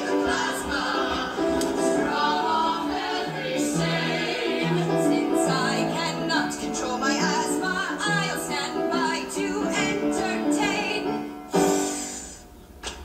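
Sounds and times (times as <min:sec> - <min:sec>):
musical theatre singing: 0:00.0 - 0:12.4.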